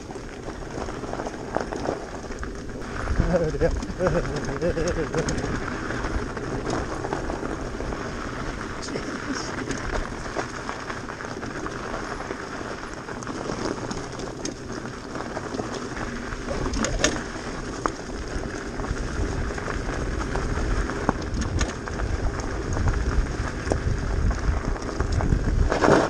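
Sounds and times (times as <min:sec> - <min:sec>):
bicycle tyres crunching on stones: 0:00.0 - 0:26.0
bike rattling: 0:00.0 - 0:26.0
wind rumble on microphone: 0:00.0 - 0:26.0.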